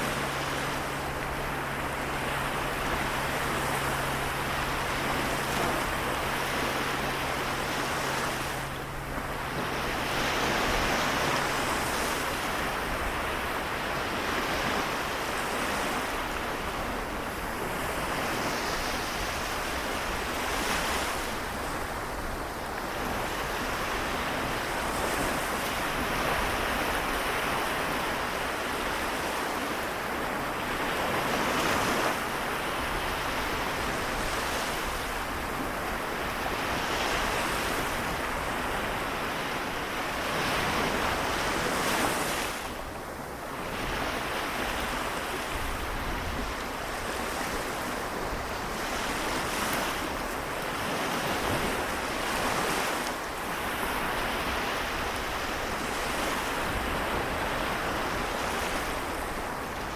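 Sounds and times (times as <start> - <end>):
small waves washing on shore: 0.0 - 59.9.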